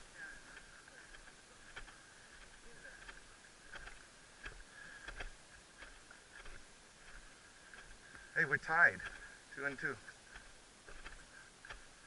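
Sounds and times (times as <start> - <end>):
footsteps on sandy ground: 0.0 - 12.0.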